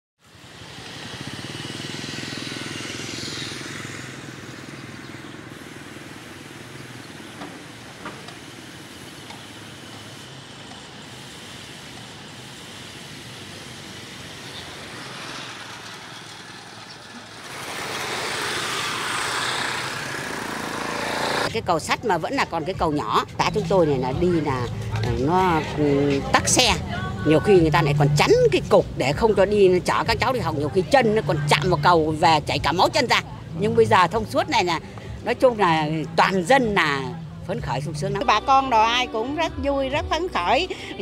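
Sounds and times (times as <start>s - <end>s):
motorbike engines in traffic: 0.2s - 41.0s.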